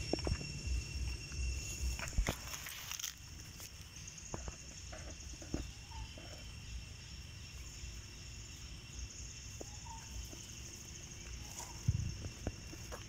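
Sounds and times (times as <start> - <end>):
high-pitched insect buzz: 0.0 - 13.0
outdoor ambience: 0.0 - 13.0.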